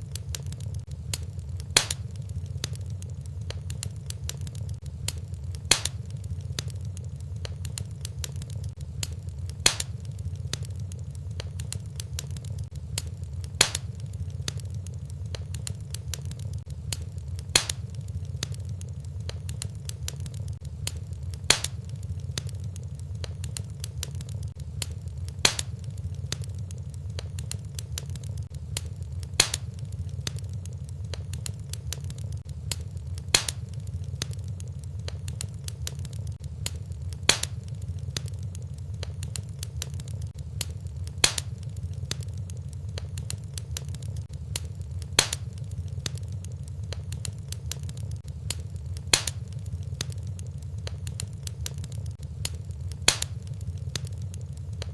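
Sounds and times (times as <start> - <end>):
loud sharp pops of fire: 0.0 - 54.9
wood fire crackling: 0.0 - 54.9.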